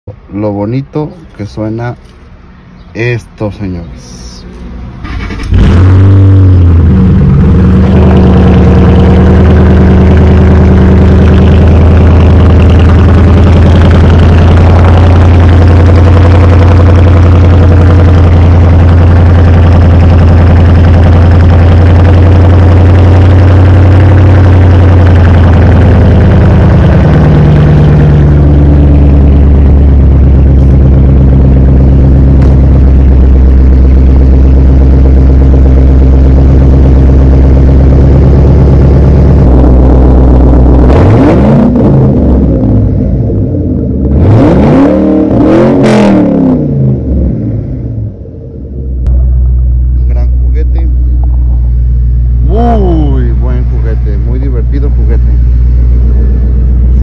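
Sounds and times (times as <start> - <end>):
car engine idling: 0.1 - 57.0.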